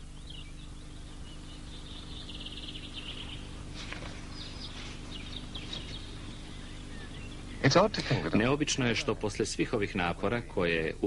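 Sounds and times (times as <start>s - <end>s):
small birds chirping and trilling: 0.0s - 11.0s
steady low hum: 0.0s - 11.0s.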